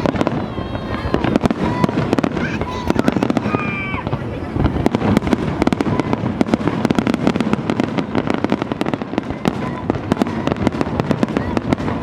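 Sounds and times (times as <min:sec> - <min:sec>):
continuous rumble: 0:00.0 - 0:12.0
fireworks bangs and crackling: 0:00.0 - 0:12.0.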